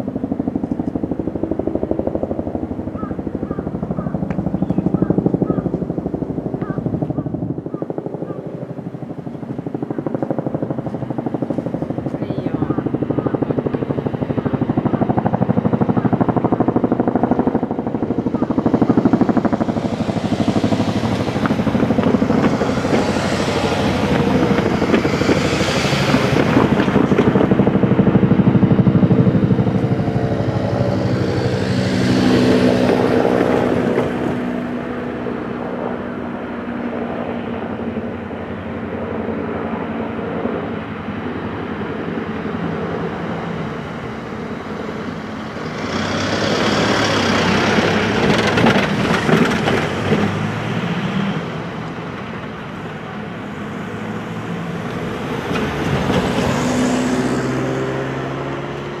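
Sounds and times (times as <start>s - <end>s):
passing vehicles: 0.0s - 59.0s
steady traffic hum: 0.0s - 59.0s.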